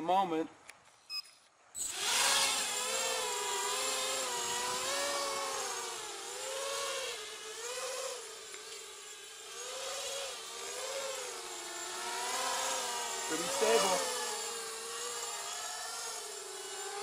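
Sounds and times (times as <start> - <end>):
quadcopter motors buzzing: 1.8 - 17.0.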